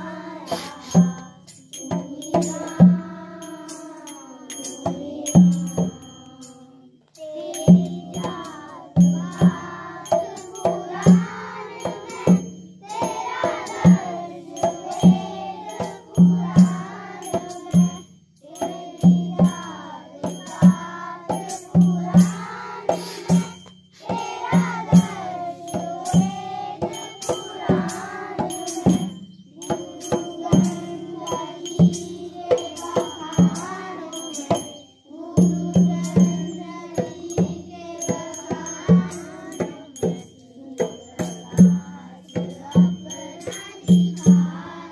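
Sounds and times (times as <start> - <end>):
drum beat: 0.0 - 6.1, 7.6 - 34.7, 35.4 - 44.9
children singing in unison: 0.0 - 44.9
jingling percussion: 0.0 - 44.9.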